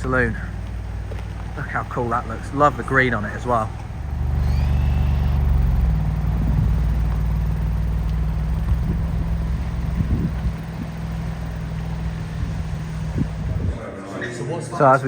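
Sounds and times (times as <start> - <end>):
car engine droning: 0.0 - 13.8
rising turbo whine: 0.0 - 13.8.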